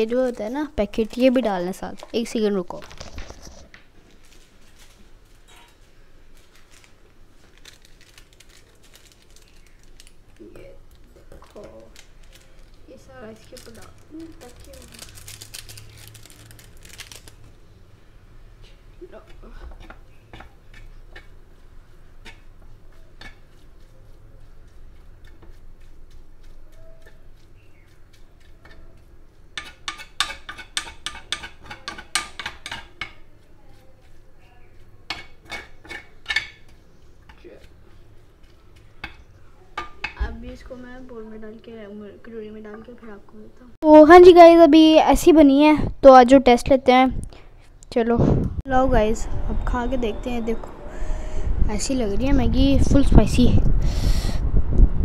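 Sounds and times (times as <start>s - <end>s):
low background noise: 0.0s - 53.6s.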